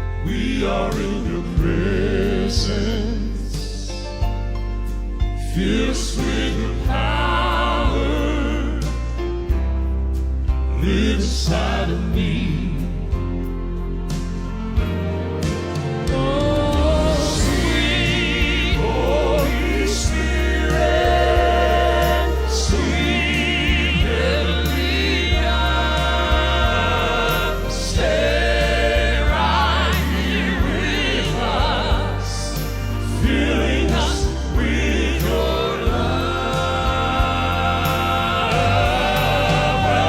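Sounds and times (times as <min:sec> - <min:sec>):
voices singing gospel song: 0:00.0 - 0:04.6, 0:05.2 - 0:40.0
bass line: 0:00.0 - 0:40.0.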